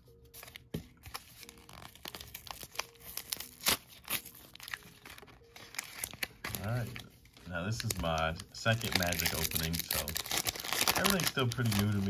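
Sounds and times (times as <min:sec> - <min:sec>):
foil wrapper crinkling: 0:00.4 - 0:12.0.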